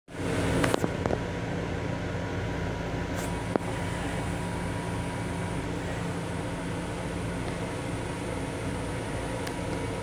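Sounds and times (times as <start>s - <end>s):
train car hum and rumble: 0.1s - 10.0s.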